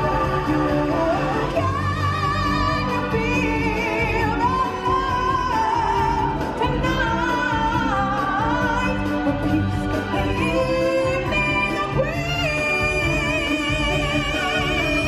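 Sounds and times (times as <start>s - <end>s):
instrumental backing music: 0.0s - 15.0s
person singing with wide vibrato: 0.0s - 15.0s.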